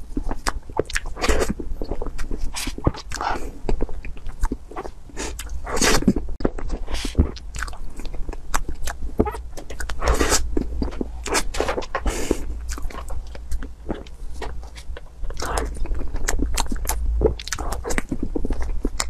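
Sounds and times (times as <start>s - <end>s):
chewing and smacking mouth sounds: 0.0s - 19.0s.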